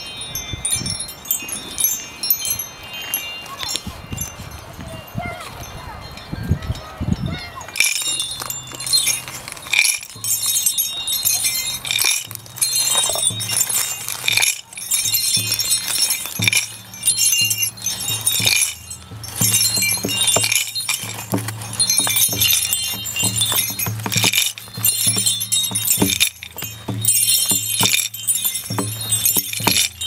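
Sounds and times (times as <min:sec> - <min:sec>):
metal jingles shaken: 0:00.0 - 0:30.0.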